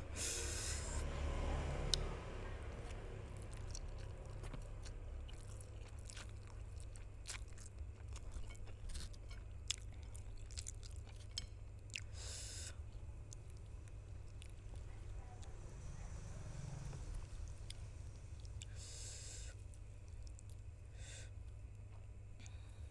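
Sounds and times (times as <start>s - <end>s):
steady low hum: 0.0s - 22.9s
chewing noodles: 1.8s - 15.6s, 16.5s - 22.6s.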